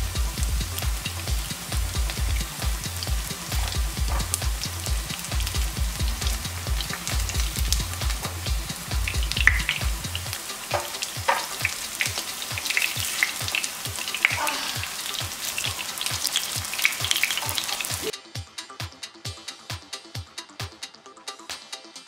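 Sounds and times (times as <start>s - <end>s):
oil popping: 0.0s - 18.1s
patties sizzling in oil: 0.0s - 18.1s
music beat: 0.0s - 22.0s.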